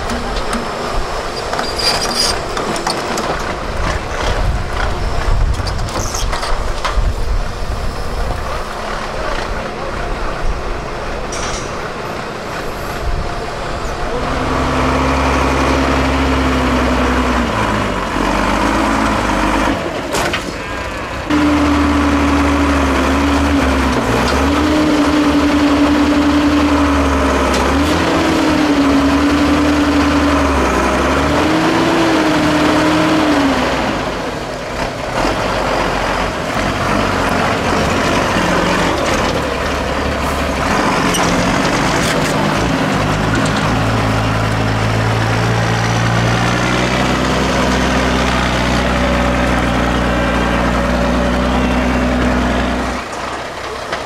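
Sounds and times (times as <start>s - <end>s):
truck diesel engine working hard: 0.0s - 54.0s.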